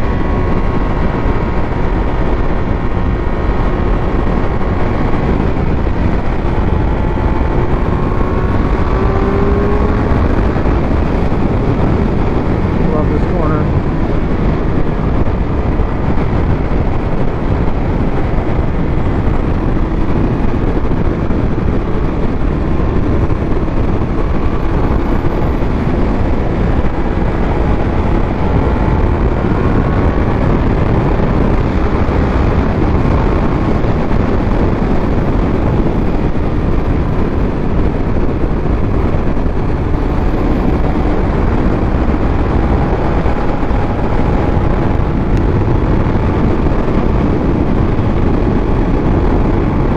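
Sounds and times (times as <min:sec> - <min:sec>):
motorcycle engine running: 0:00.0 - 0:49.9
wind rushing over microphone: 0:00.0 - 0:49.9.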